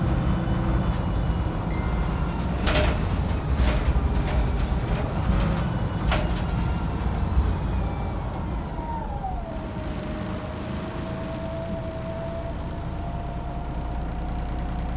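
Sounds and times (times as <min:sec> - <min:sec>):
bus engine rumble: 0:00.0 - 0:14.9.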